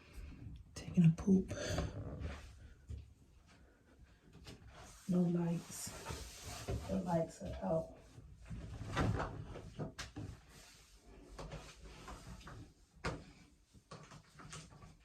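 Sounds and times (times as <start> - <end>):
faint rustling and knocking: 1.8 - 15.0.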